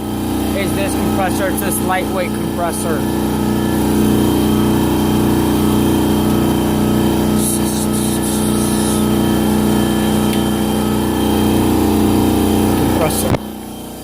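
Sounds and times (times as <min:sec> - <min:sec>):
air compressor running: 0:00.0 - 0:14.0.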